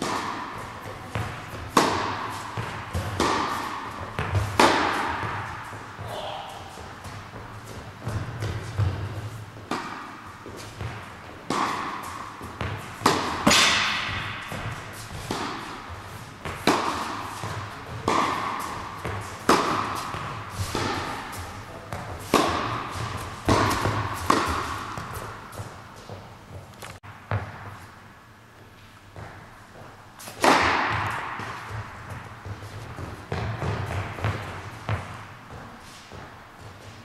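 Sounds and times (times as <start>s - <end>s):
tennis ball bouncing on court: 0.0s - 27.9s, 29.1s - 36.9s
racket hitting tennis ball: 0.0s - 28.0s, 28.7s - 37.0s.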